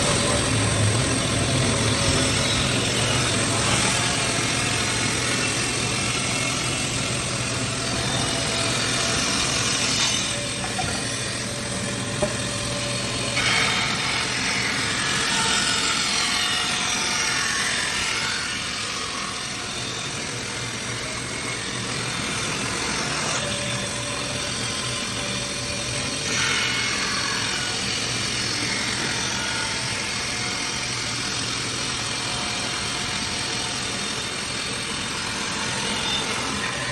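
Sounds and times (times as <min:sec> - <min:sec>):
power saw cutting wood: 0:00.0 - 0:36.9.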